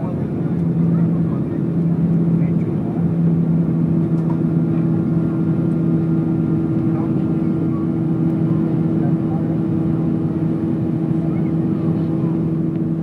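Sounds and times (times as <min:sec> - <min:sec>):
jet engines running: 0:00.0 - 0:13.0
low two-note hum: 0:00.0 - 0:13.0.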